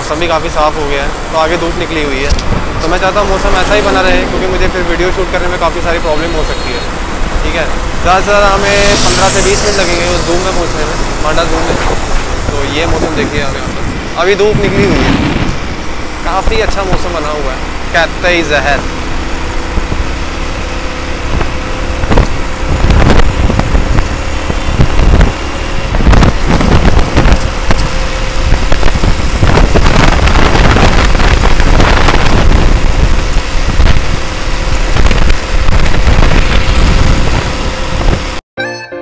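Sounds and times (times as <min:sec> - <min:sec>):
engine hum: 0:00.0 - 0:38.4
wind buffeting microphone: 0:00.9 - 0:38.4.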